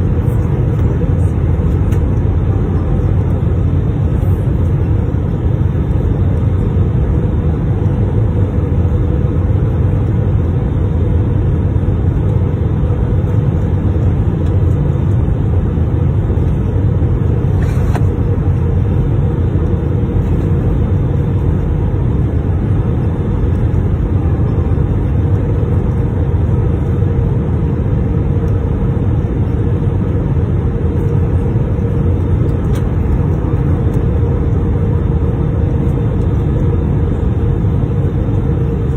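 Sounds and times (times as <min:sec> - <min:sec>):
airliner cabin engine roar: 0:00.0 - 0:38.9
faint constant hum: 0:00.0 - 0:38.9.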